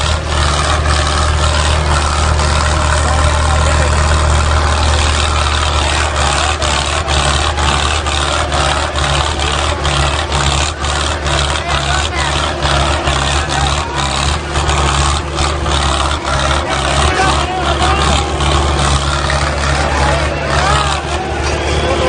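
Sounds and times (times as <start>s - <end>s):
crowd noise: 0.0s - 22.0s
tractor diesel engine running: 0.0s - 22.0s.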